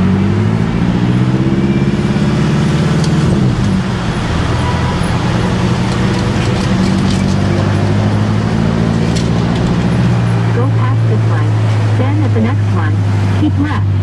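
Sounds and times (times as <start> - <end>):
car engine droning under load: 0.0 - 14.0.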